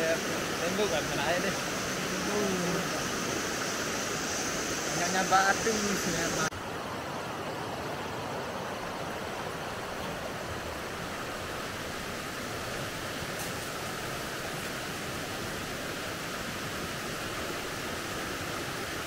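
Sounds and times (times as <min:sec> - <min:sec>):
stream running over rocks: 0:00.0 - 0:19.0.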